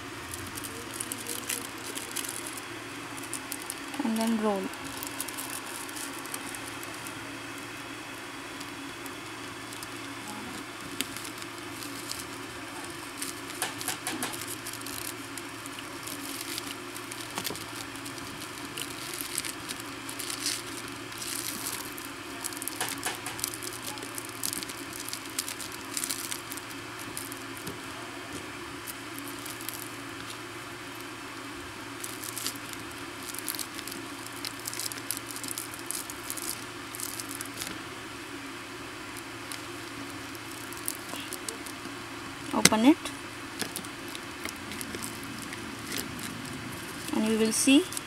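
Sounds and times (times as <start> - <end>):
rolling machine scratching and rustling: 0.0 - 31.1, 32.0 - 37.8, 39.0 - 42.7, 43.5 - 48.0.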